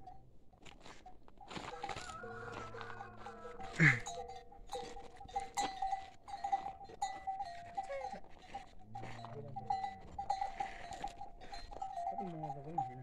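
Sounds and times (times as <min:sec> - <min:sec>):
neck bells clanking: 0:00.0 - 0:13.0.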